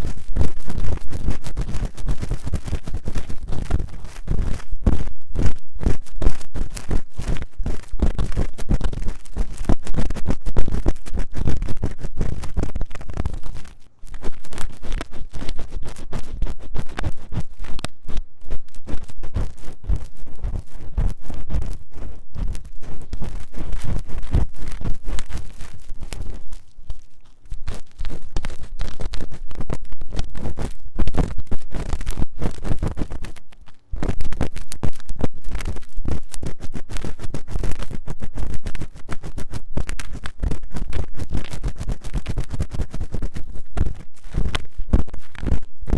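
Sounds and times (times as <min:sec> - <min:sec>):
scratching on microphone: 0:00.0 - 0:45.9.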